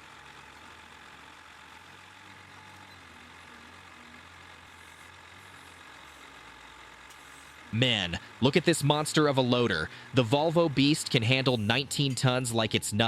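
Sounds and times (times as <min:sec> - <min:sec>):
heavy machine engine idling: 0:00.0 - 0:13.0.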